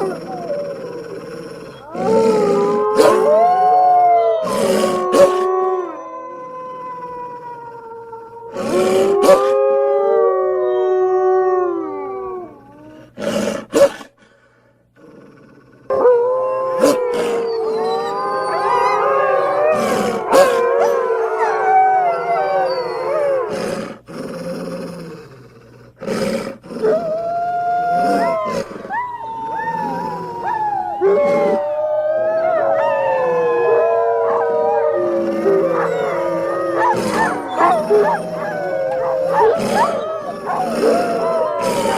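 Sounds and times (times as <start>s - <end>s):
wolves howling: 0.0s - 13.1s, 15.9s - 23.8s, 26.6s - 41.9s.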